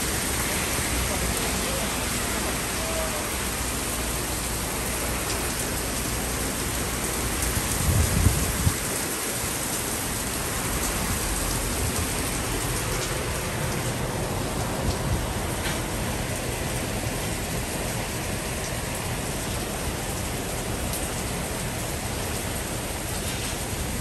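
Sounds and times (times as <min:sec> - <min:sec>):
heavy rain downpour: 0:00.0 - 0:24.0.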